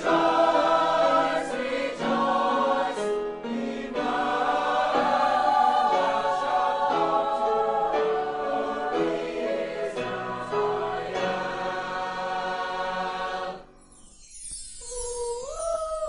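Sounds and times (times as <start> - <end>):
choir singing in chords: 0.0 - 13.9.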